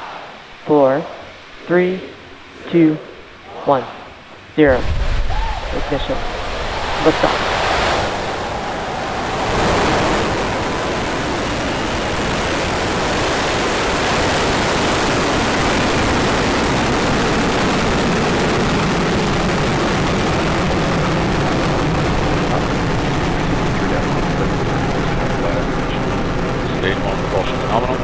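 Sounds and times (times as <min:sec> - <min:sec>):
rocket engines thundering: 0:01.3 - 0:28.0.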